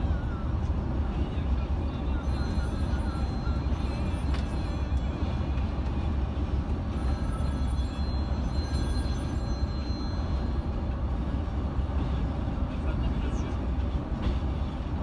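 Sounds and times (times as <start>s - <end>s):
bus engine and tyre rumble: 0.0s - 15.0s.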